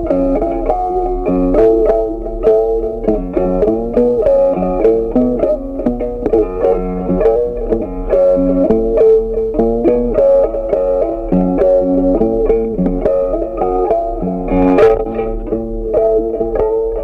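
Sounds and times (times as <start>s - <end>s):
plucked-string melody: 0.0s - 17.0s
steady low hum: 0.0s - 17.0s.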